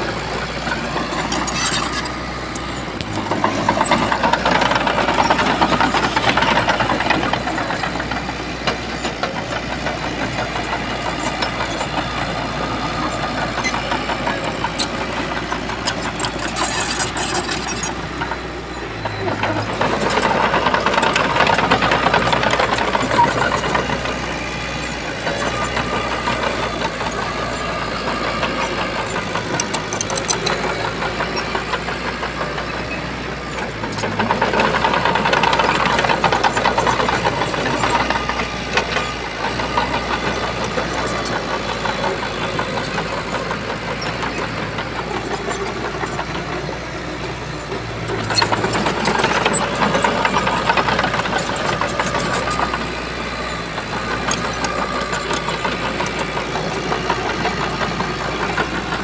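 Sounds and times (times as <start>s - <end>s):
bulldozer diesel engine running hard: 0.0s - 59.0s.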